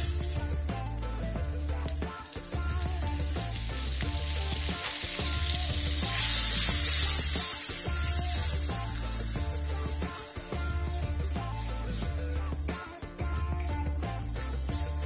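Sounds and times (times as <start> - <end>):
background music: 0.0 - 15.0
masala sizzling in hot oil: 0.0 - 15.0
metal spatula stirring: 0.0 - 15.0.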